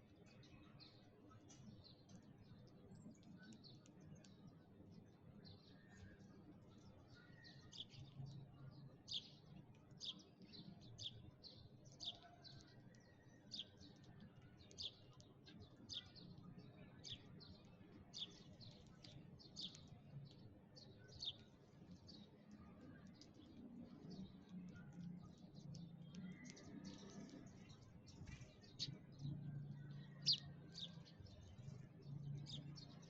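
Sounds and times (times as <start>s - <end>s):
sparrows chirping: 0.0s - 33.0s.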